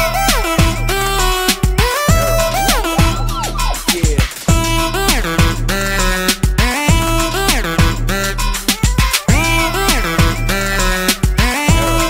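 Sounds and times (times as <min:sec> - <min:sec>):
background music with bass beat: 0:00.0 - 0:12.0.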